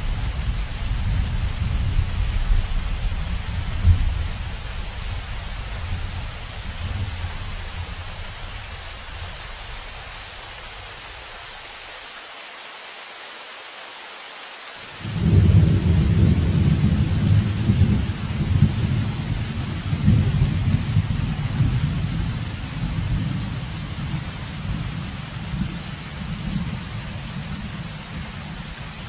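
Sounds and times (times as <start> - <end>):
heavy rain hissing: 0.0 - 29.0.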